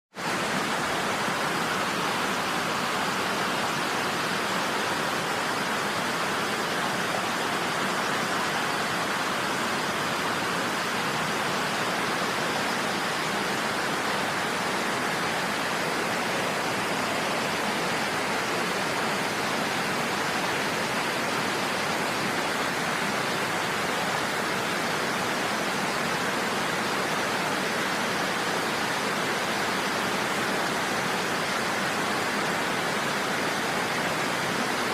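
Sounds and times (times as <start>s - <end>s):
waterfall roaring: 0.2s - 34.9s.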